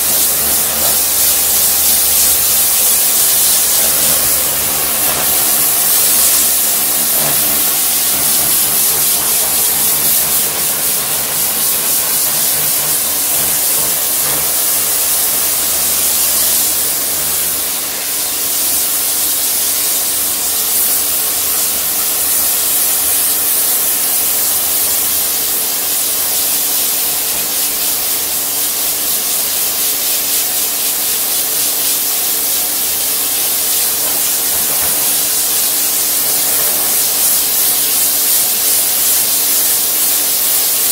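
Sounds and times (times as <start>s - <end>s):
motor and pump humming: 0.0s - 40.9s
pressure washer jet hissing: 0.0s - 40.9s.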